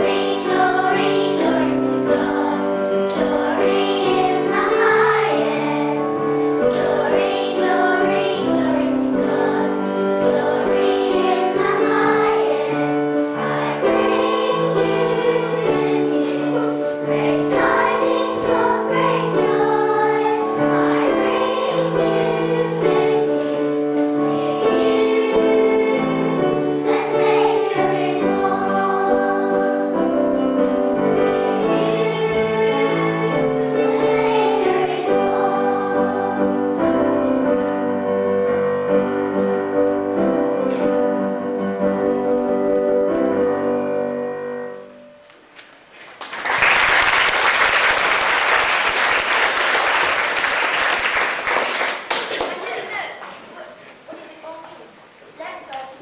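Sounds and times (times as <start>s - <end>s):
children's choir singing: 0.0s - 45.1s
musical accompaniment: 0.0s - 51.2s.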